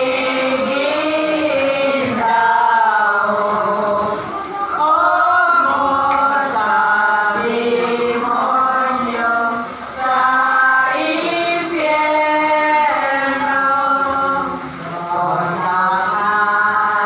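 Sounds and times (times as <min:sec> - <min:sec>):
group singing a devotional hymn: 0:00.0 - 0:17.0.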